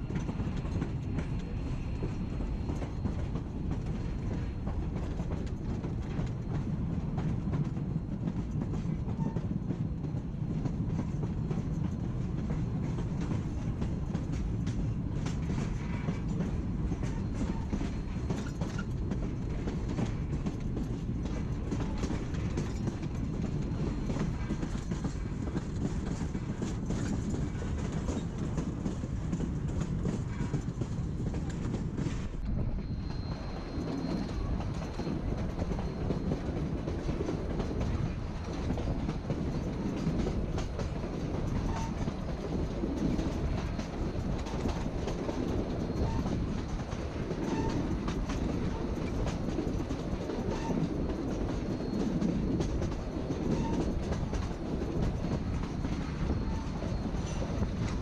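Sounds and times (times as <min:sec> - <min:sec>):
train rumbling: 0:00.0 - 0:58.0
wheels clacking over rail joints: 0:00.1 - 0:58.0.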